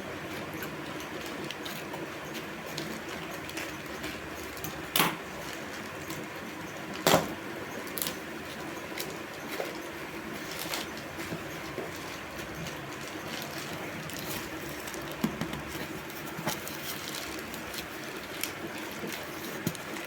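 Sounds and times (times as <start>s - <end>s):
packaging clicks and rustles: 0.4s - 20.0s.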